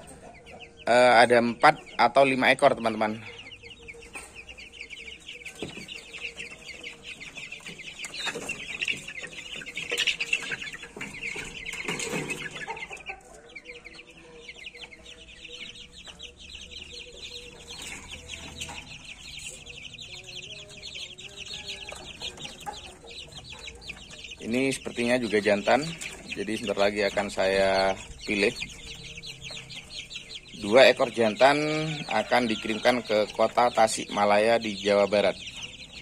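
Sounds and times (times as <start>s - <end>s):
chicks cheeping: 0.0s - 36.0s.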